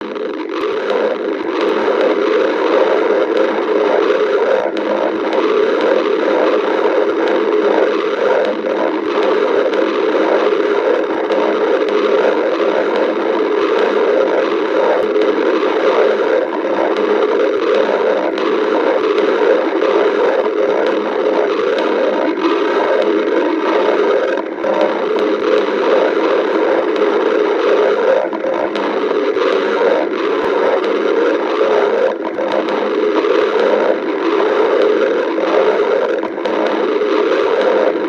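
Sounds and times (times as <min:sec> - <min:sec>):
stomach growling: 0:00.0 - 0:38.0.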